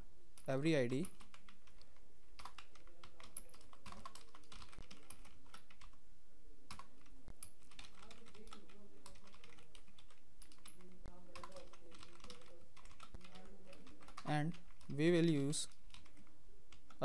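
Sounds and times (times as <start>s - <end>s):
computer keyboard typing: 0.4s - 6.0s, 6.7s - 17.0s.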